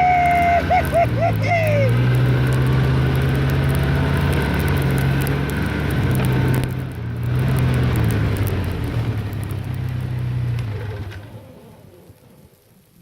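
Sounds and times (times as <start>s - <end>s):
snowmobile engine running: 0.0s - 11.9s.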